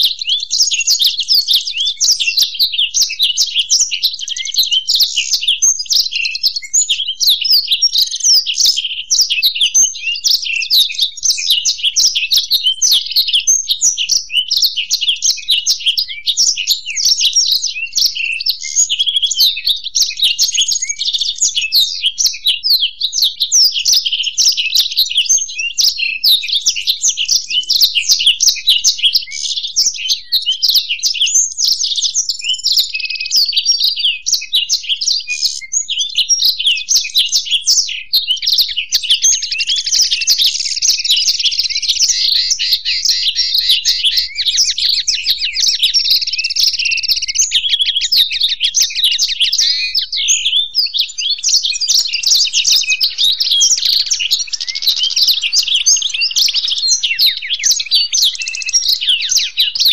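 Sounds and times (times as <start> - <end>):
songbirds chirping and twittering: 0.0 - 59.9.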